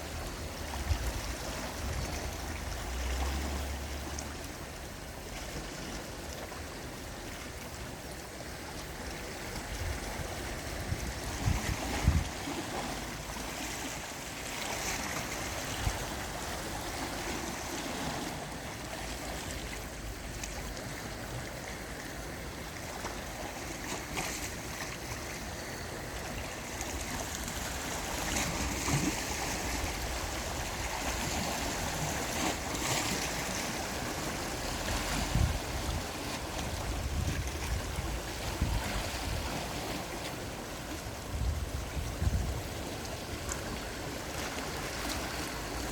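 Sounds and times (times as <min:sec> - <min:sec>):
sea waves washing in: 0:00.0 - 0:45.9.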